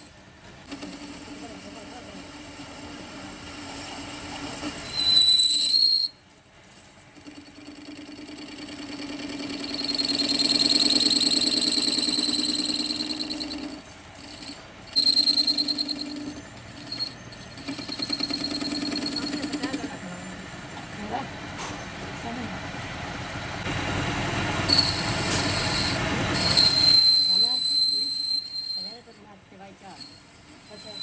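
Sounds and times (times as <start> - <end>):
lathe tool squealing against metal: 0.7 - 6.2, 7.2 - 21.0, 24.7 - 31.0.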